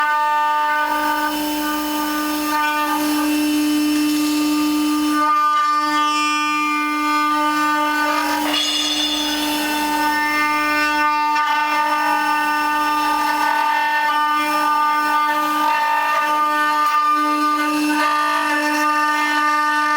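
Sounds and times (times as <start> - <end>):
router spindle cutting wood: 0.0 - 19.9.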